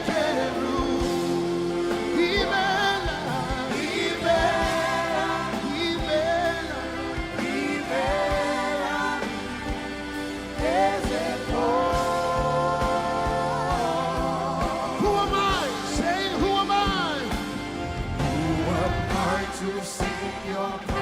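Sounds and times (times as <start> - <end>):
gospel band accompaniment: 0.0 - 21.0.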